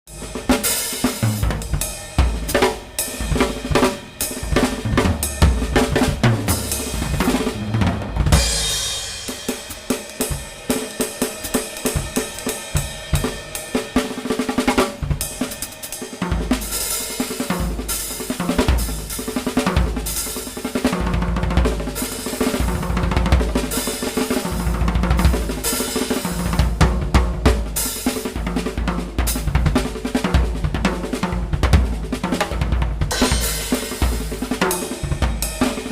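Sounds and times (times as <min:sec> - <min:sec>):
cymbals: 0:00.1 - 0:35.9
drum kit playing a busy beat: 0:00.1 - 0:35.9.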